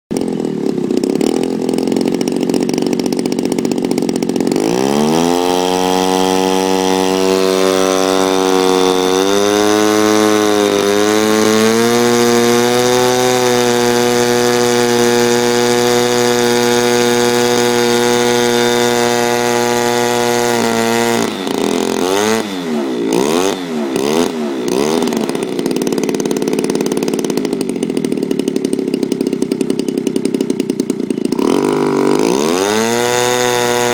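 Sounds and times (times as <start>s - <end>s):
model aeroplane engine revving: 0.1s - 33.9s.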